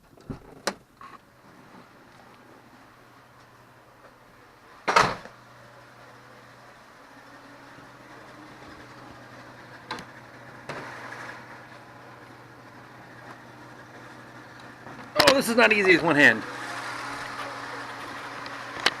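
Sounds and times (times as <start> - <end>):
car engine idling: 2.0 - 19.0.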